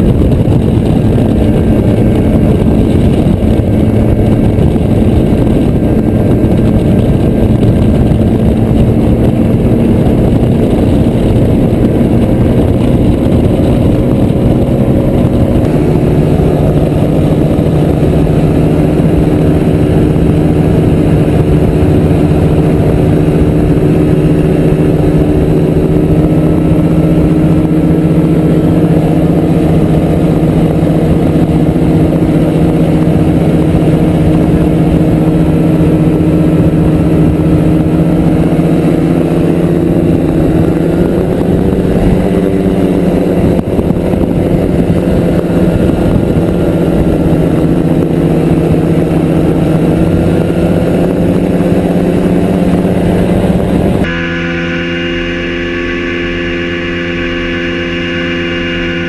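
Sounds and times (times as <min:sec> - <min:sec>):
paramotor engine running: 0:00.0 - 0:59.0.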